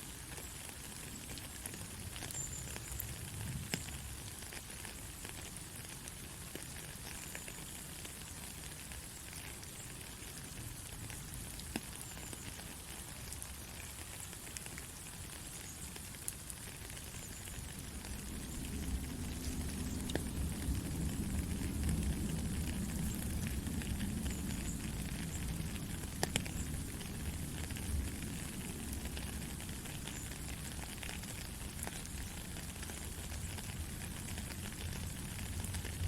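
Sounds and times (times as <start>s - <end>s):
rain falling: 0.0s - 36.0s
water drips: 0.2s - 36.0s.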